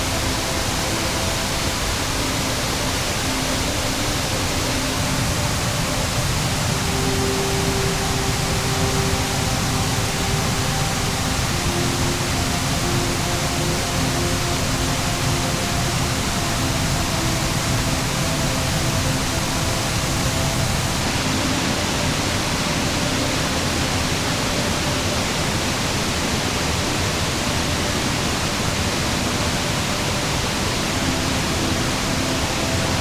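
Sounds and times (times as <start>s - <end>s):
faint sustained tones: 0.0s - 33.0s
stream rushing over rocks: 0.0s - 33.0s.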